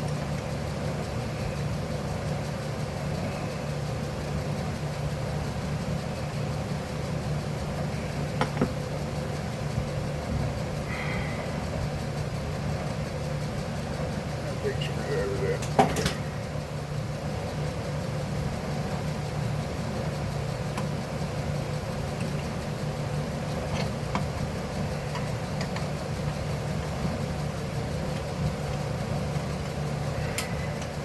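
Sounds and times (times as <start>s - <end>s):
low mechanical drone: 0.0s - 31.0s.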